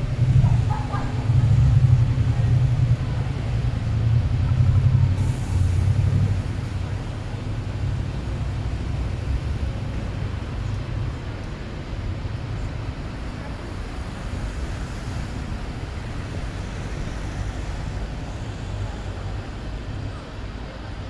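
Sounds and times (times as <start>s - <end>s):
rumble of passing traffic: 0.0s - 21.0s.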